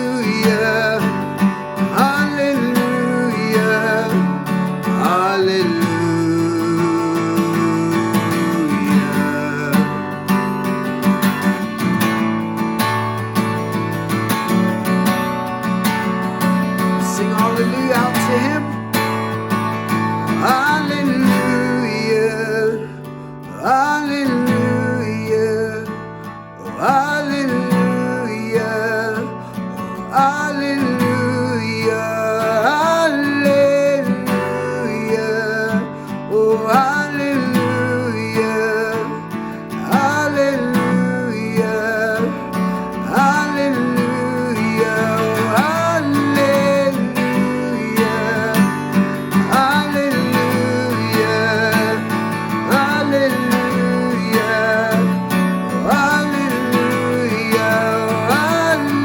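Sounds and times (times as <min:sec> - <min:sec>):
gliding guitar lead melody: 0:00.0 - 0:59.0.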